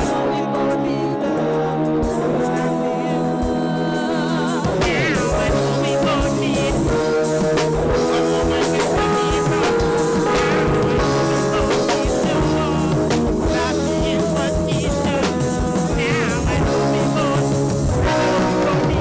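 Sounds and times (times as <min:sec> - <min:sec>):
drum kit beats: 0:00.0 - 0:19.0
electric guitar: 0:00.0 - 0:19.0
live reggae band playing: 0:00.0 - 0:19.0
sustained keyboard notes: 0:00.0 - 0:19.0
wavering lead melody: 0:00.0 - 0:19.0.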